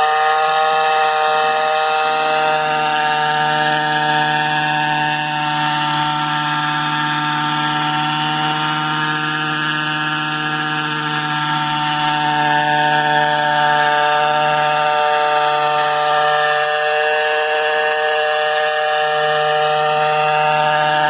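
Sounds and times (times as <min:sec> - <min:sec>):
quadcopter engine drone: 0:00.0 - 0:21.0.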